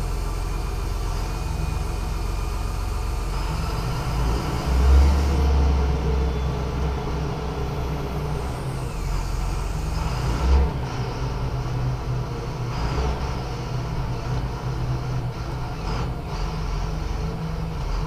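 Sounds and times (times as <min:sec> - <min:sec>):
lorry engine idling: 0:00.0 - 0:18.0.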